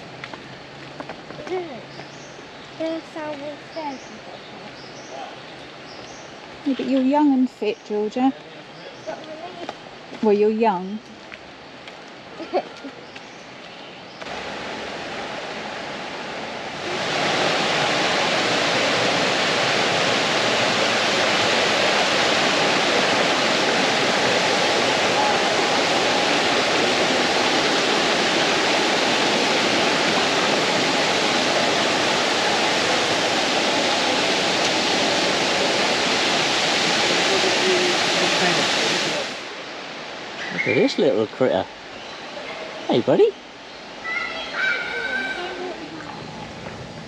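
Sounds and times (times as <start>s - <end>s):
waterfall rushing: 0.0s - 6.6s, 8.6s - 10.1s, 14.2s - 47.0s.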